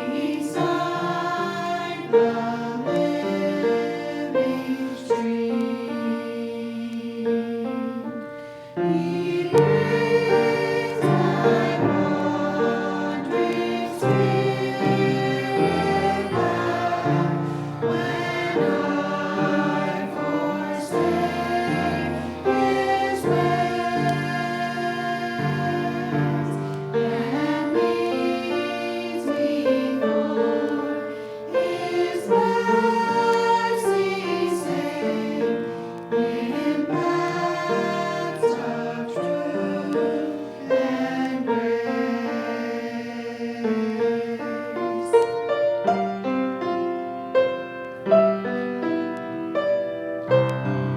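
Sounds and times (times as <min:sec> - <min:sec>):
choir singing held chords: 0:00.0 - 0:50.9.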